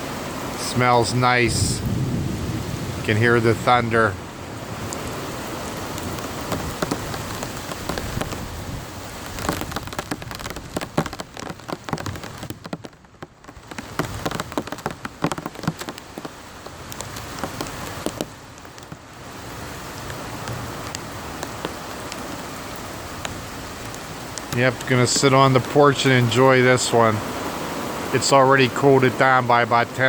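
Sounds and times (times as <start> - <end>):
steady rain falling: 0.0 - 30.0
sharp ticks of raindrops: 0.6 - 30.0.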